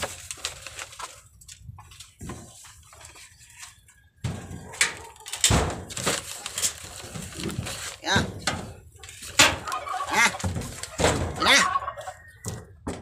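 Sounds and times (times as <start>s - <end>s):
paper bag rustling: 0.0s - 3.8s, 4.4s - 11.4s.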